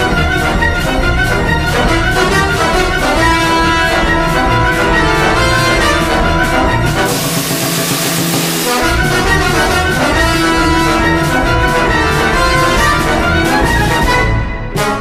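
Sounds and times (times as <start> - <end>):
brass music: 0.0 - 15.0.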